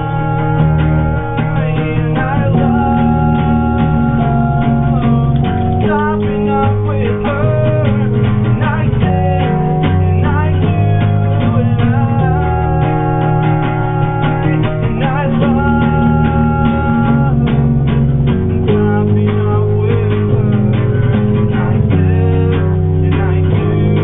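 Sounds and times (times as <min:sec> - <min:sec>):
live band playing: 0:00.0 - 0:24.0
person singing: 0:00.0 - 0:24.0.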